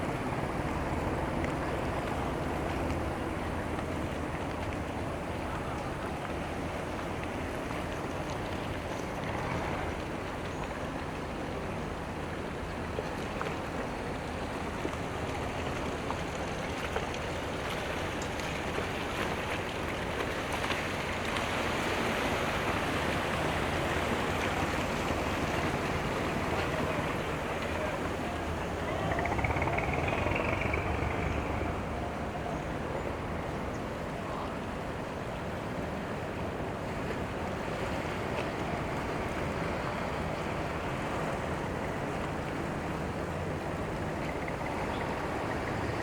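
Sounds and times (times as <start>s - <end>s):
boat motors: 0.0s - 46.0s
moving water: 0.0s - 46.0s.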